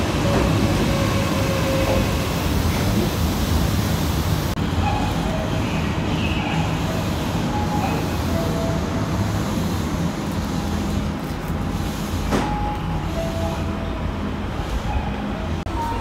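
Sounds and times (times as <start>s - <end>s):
electric train low rumble: 0.0s - 16.0s.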